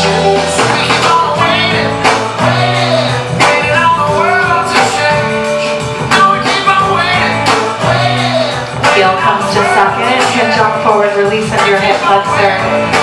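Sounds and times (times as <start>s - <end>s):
pop song with female vocal: 0.0s - 13.0s.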